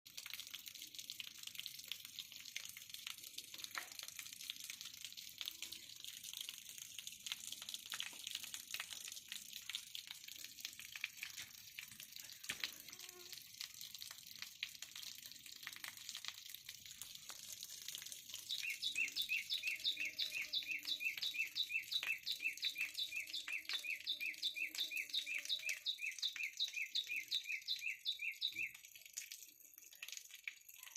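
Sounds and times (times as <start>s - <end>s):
water running and splashing: 0.1s - 30.9s.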